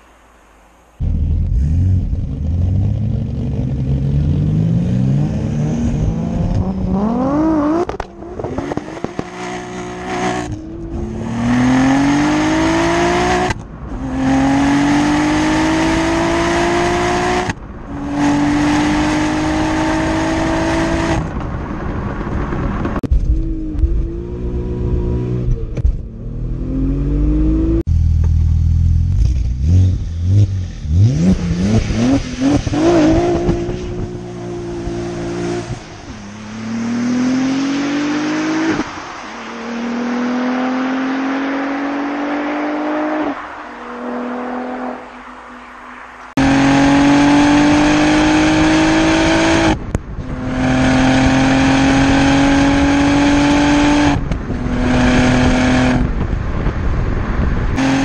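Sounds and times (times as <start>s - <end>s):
car engine accelerating hard: 1.0s - 58.0s.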